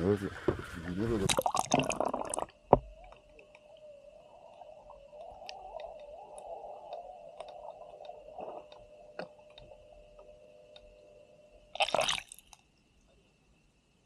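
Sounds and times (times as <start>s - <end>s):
wavering underwater tone: 0.0s - 12.0s
steady underwater hum: 0.0s - 14.0s.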